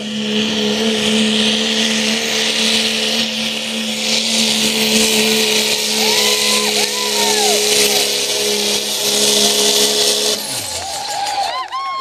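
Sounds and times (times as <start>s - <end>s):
truck engine at high revs: 0.0s - 12.0s.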